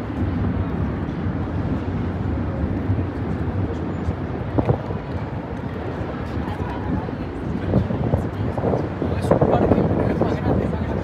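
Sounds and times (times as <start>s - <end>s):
city street rumble: 0.0s - 11.0s.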